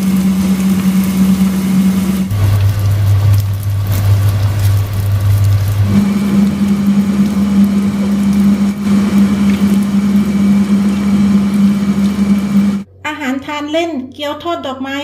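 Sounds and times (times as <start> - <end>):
wrappers sizzling in oil: 0.0 - 12.8
loud electrical hum: 0.0 - 13.2.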